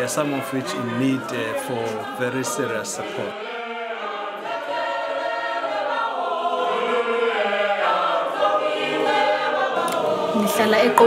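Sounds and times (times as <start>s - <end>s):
children's choir singing: 0.0s - 11.0s.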